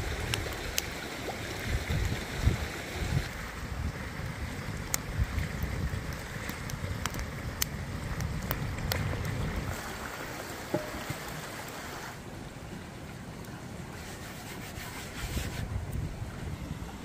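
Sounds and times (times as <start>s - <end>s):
wind rumbling on microphone: 0.0s - 11.6s, 13.9s - 17.0s
campfire crackles: 0.0s - 17.0s
stream running: 0.0s - 17.0s.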